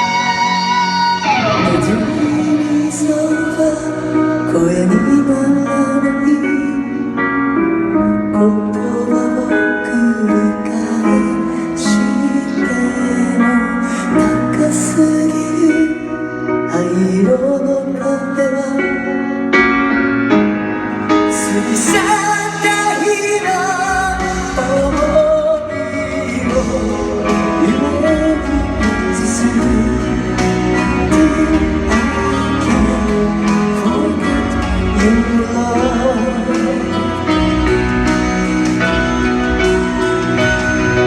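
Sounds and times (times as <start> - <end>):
person singing: 0.0 - 20.1, 21.0 - 41.0
guitar accompaniment: 0.0 - 41.0.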